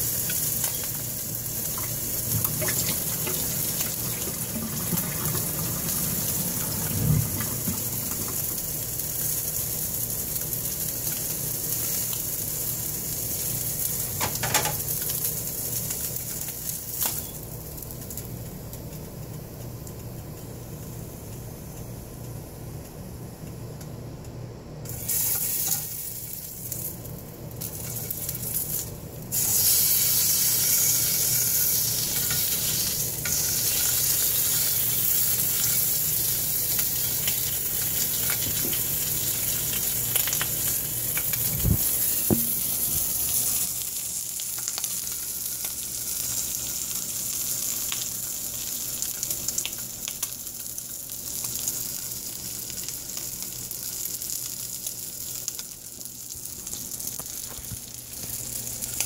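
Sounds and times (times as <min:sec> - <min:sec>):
sandwich sizzling in frying pan: 0:00.0 - 0:21.6, 0:24.8 - 0:59.0.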